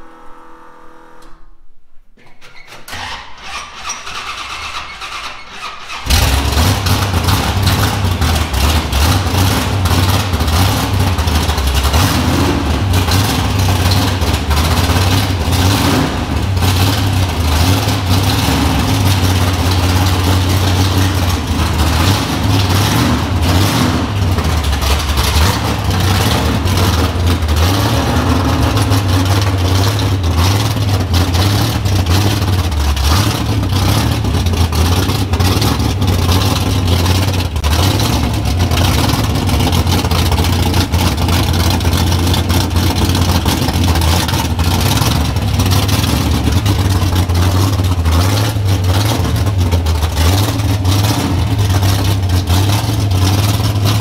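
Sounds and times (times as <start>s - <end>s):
engine starting and idling roughly: 2.3s - 54.0s
engine revving: 4.3s - 54.0s.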